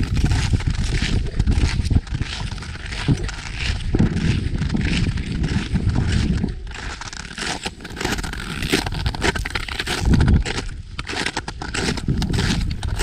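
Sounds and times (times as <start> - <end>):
wind buffeting microphone: 0.0 - 7.0, 7.8 - 13.0
boots crunching in snow: 0.0 - 13.0.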